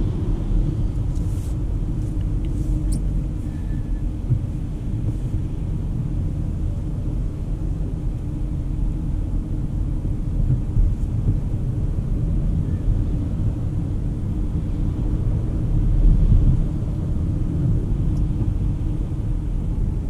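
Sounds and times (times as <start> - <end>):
car tyre and road noise: 0.0 - 20.0.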